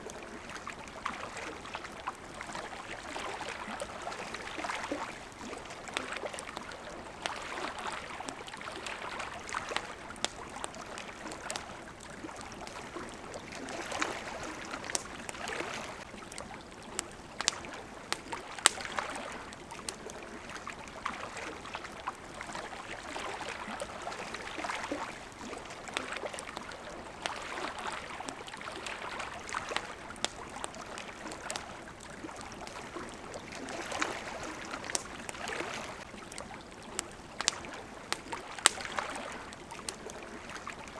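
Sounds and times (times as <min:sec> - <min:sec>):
campfire crackling: 0:00.0 - 0:40.9
water lapping at shore: 0:00.0 - 0:40.9.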